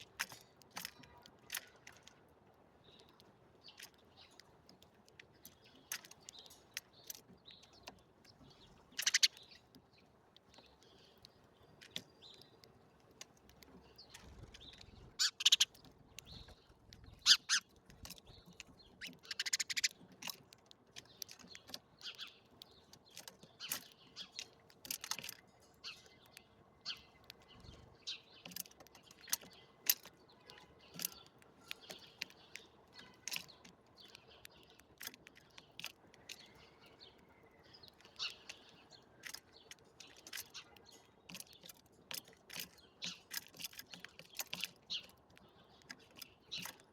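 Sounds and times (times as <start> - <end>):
sharp clicks and ticks: 0.0 - 46.9
small birds chirping: 0.0 - 46.9.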